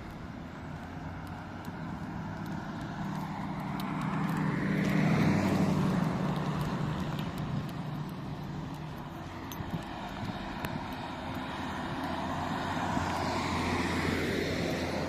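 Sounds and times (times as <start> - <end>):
vehicle driving past: 0.7 - 8.8, 9.4 - 15.0.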